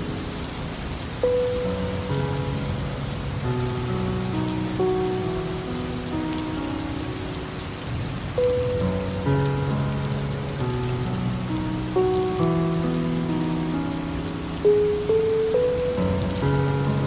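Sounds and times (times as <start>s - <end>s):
rain hiss: 0.0s - 17.0s
soft music with long notes: 0.0s - 17.0s.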